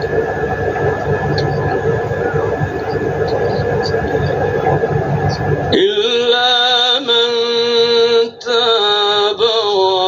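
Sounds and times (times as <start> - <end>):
background rumble and hiss: 0.0 - 10.0.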